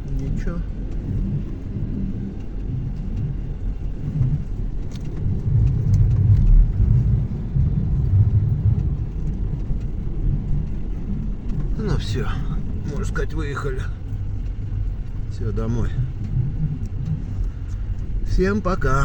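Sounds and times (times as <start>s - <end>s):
car rumbling over ice: 0.0s - 19.0s.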